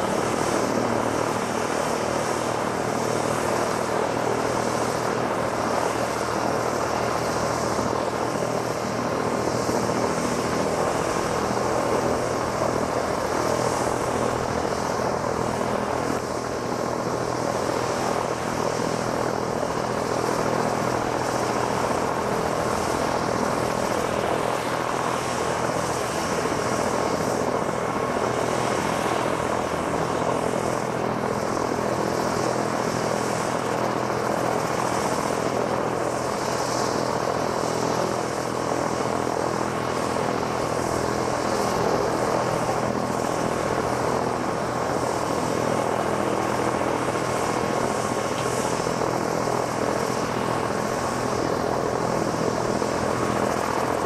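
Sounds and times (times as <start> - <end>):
helicopter rotor noise: 0.0 - 54.0
helicopter turbine whine: 0.0 - 54.0.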